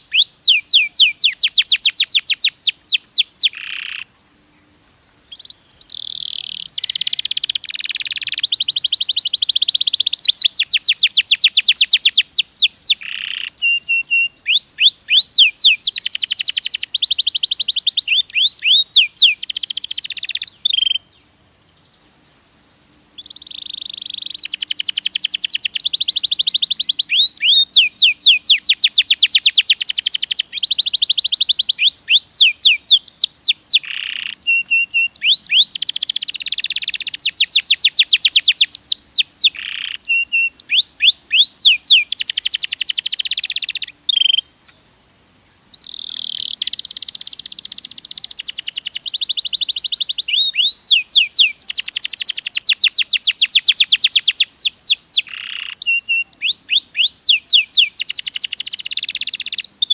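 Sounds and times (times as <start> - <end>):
canary singing: 0.0 - 4.1, 5.3 - 21.1, 23.2 - 44.6, 45.7 - 59.9.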